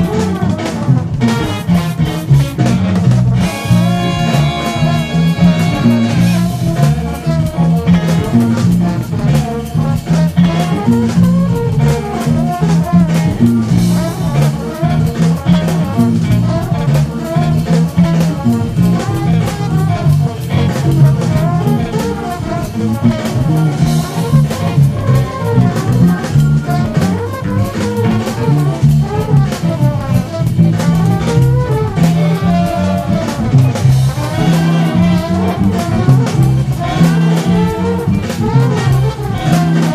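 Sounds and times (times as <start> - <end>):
drum kit: 0.0 - 39.9
funk electric bass riff: 0.0 - 39.9
horns: 0.0 - 39.9.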